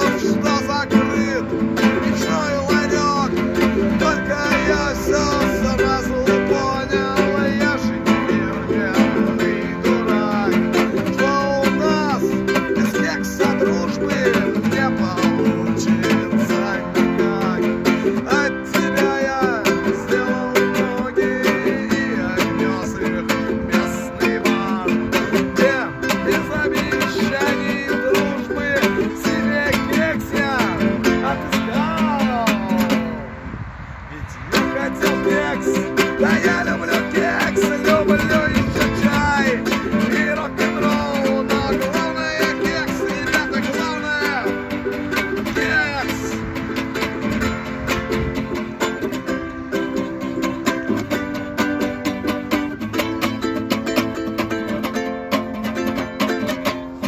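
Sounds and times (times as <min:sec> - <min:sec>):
man singing: 0:00.0 - 0:33.4, 0:34.1 - 0:57.0
ukulele strumming: 0:00.0 - 0:33.4, 0:34.5 - 0:57.0
acoustic guitar strumming: 0:00.0 - 0:33.6, 0:34.5 - 0:57.0.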